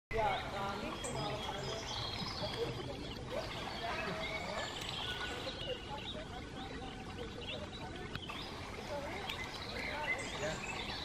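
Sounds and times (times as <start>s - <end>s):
murmur of voices: 0.1s - 11.0s
small birds chirping: 0.1s - 11.0s.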